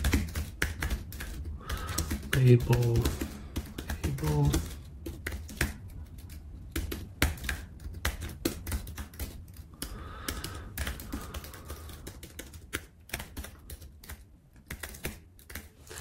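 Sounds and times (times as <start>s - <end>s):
keyboard typing: 0.0s - 16.0s.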